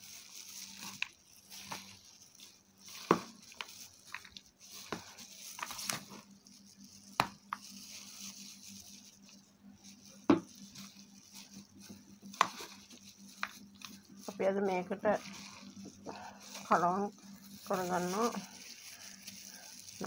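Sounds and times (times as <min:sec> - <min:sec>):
soft wet squishing: 0:00.0 - 0:20.0.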